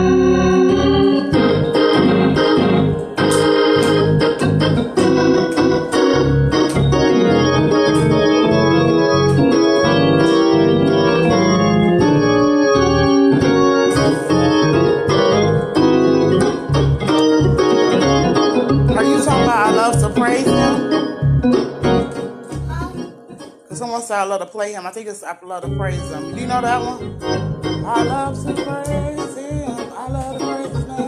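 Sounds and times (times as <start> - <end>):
organ playing sustained chords: 0.0 - 25.0, 25.6 - 31.0.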